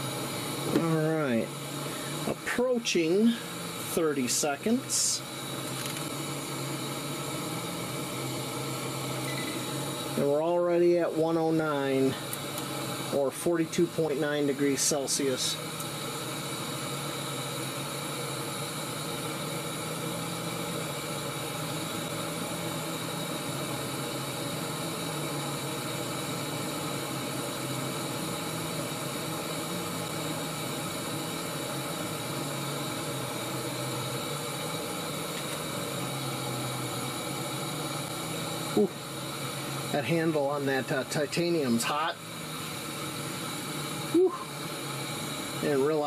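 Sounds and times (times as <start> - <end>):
gas stove burner hissing: 0.0 - 46.0.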